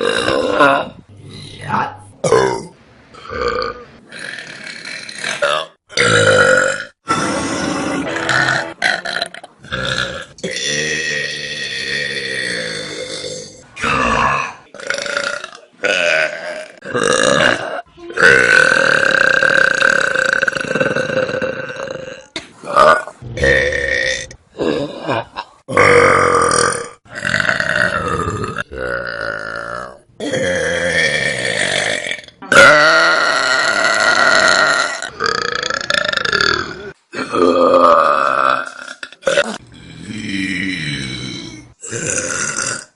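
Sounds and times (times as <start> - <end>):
loud human burps: 0.0 - 1.6, 2.2 - 42.9.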